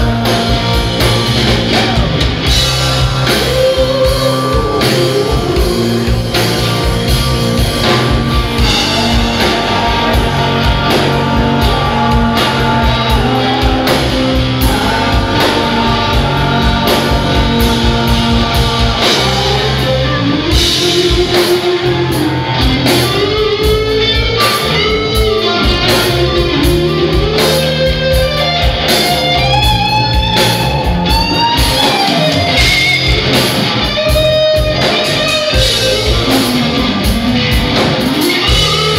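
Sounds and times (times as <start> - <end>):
electric guitar lead with bent notes: 0.0 - 38.9
rock band playing: 0.0 - 38.9.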